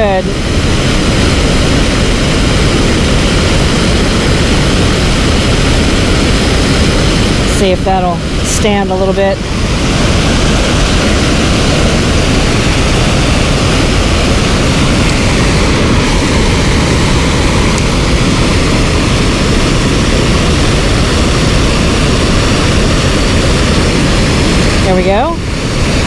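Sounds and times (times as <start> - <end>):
water pouring over dam spillway: 0.0 - 8.7, 9.4 - 26.0.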